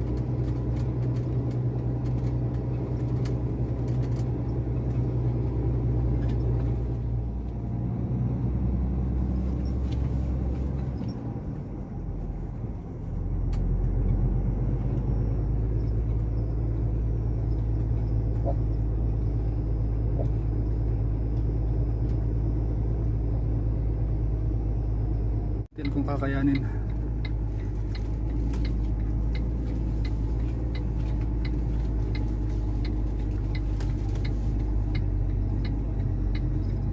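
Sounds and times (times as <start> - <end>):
truck engine drone: 0.0 - 36.9.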